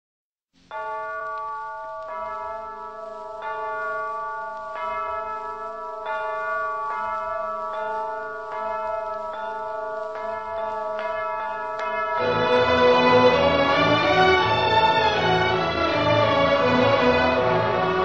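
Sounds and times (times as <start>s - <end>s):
tuned bells pealing: 0.7s - 18.0s.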